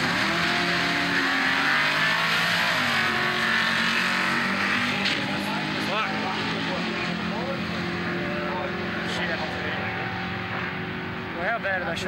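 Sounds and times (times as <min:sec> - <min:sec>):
car engines revving hard: 0:00.0 - 0:12.0
spinning tyres rushing: 0:00.0 - 0:12.0.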